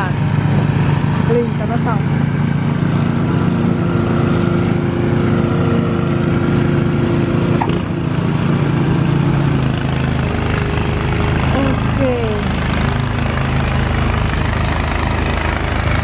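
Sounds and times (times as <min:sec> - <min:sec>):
snowblower engine running: 0:00.0 - 0:16.0.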